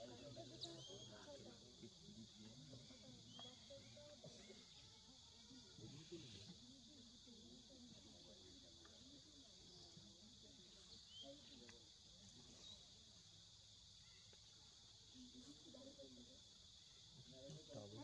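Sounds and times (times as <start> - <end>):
forest insects chorus: 0.0 - 18.0.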